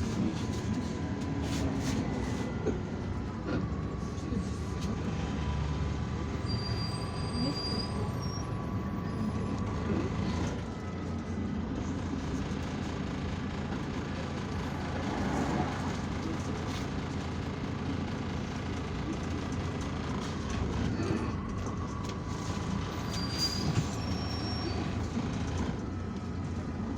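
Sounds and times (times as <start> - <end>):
bus engine and road noise: 0.0 - 26.9.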